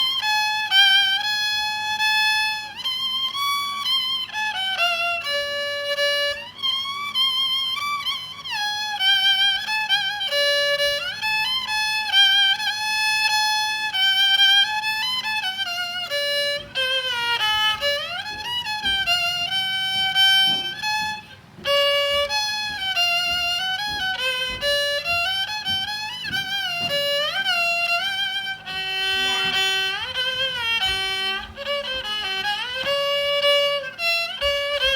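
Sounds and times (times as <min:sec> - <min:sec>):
bowed fiddle melody: 0:00.0 - 0:34.9.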